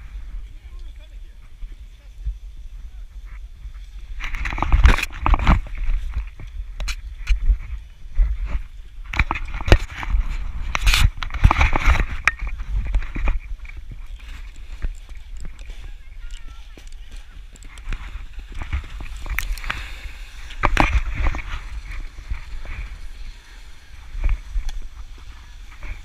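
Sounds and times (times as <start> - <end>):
snowboard scraping over snow: 0.0 - 26.0.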